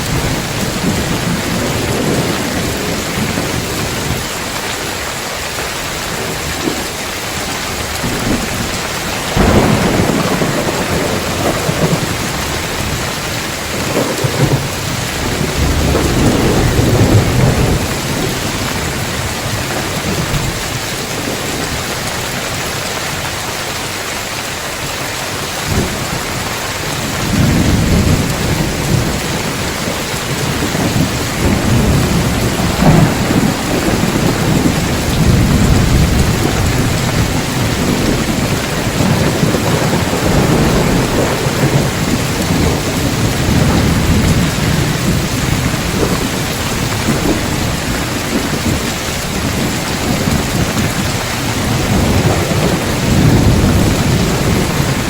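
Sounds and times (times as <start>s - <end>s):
rolling thunder rumble: 0.0s - 5.2s, 5.8s - 23.3s, 25.4s - 55.0s
heavy rain on roof tiles: 0.0s - 55.0s.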